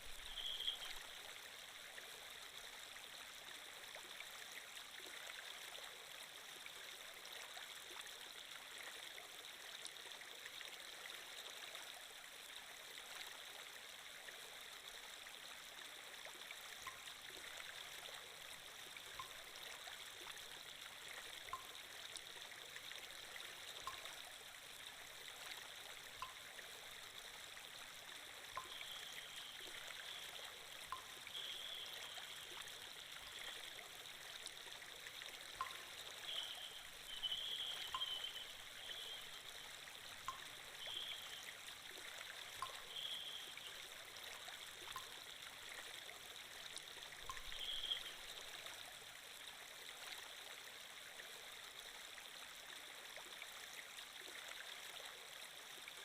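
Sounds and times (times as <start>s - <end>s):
faint running water: 0.0s - 56.0s.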